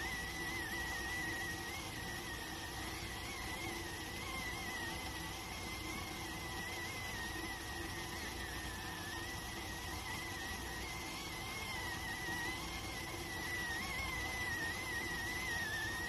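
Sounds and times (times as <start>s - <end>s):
steam whistling from cooker: 0.0s - 16.0s.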